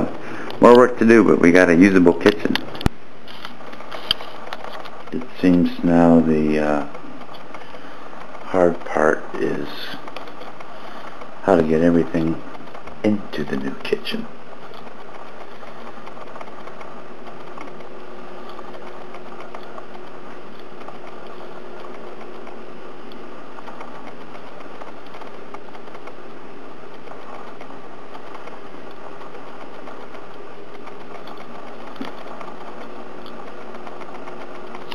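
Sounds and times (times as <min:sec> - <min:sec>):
mechanical whir and hum: 0:00.0 - 0:34.9.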